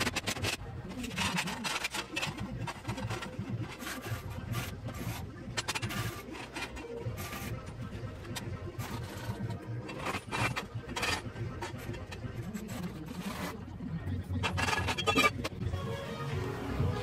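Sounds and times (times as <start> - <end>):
metal knocks and scrapes: 0.0 - 13.7, 14.4 - 15.6.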